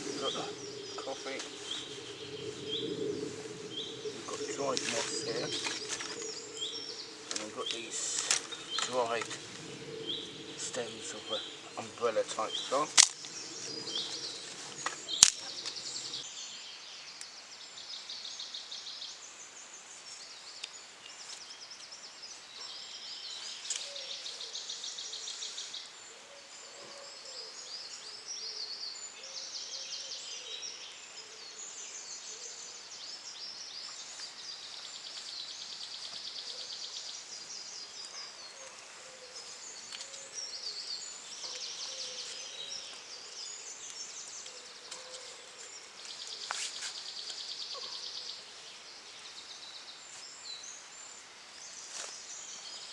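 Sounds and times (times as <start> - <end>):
songbirds singing: 0.0 - 52.9.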